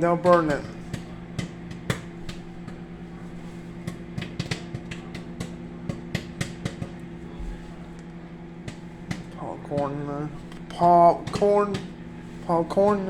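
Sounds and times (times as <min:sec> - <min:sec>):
microwave oven humming: 0:00.0 - 0:13.0
popcorn popping: 0:00.0 - 0:13.0.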